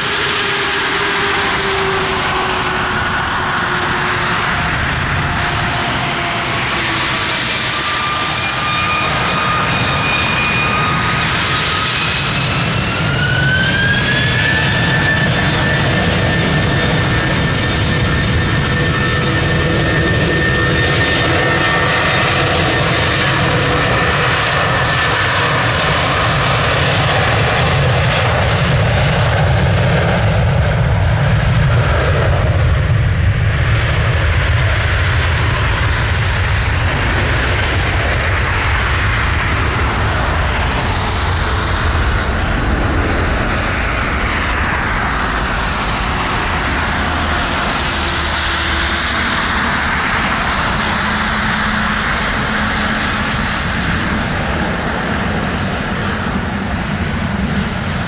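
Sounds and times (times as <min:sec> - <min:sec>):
jet engine low rumble: 0:00.0 - 0:58.0
jet engine whine: 0:00.0 - 0:58.0.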